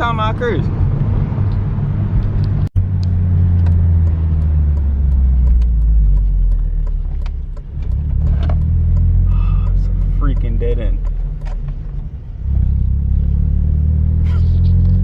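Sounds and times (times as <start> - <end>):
car engine and exhaust droning: 0.0 - 15.0.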